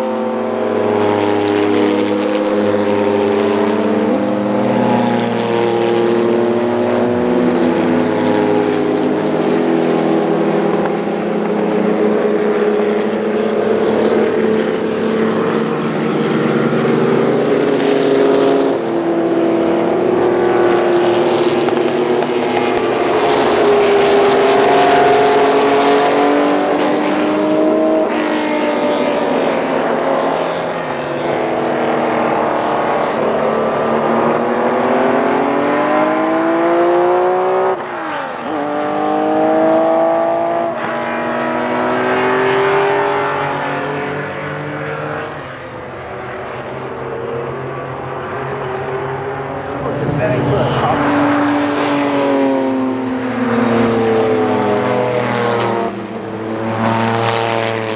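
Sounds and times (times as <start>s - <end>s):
racing car engines passing: 0.0s - 57.9s.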